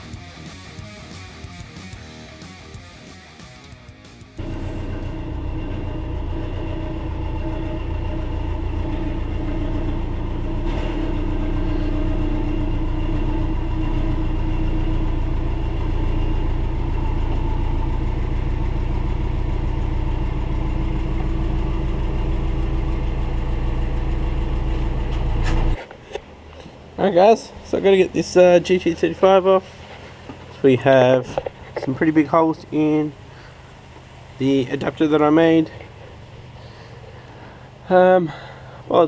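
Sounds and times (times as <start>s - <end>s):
car engine running at low revs: 4.2s - 39.0s.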